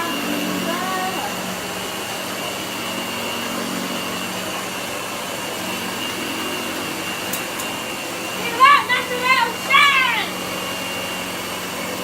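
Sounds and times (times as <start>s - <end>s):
upright vacuum cleaner running: 0.0s - 12.0s.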